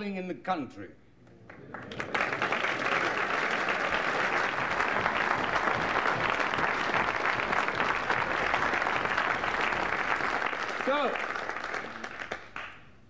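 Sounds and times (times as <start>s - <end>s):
audience applauding: 1.3s - 12.9s.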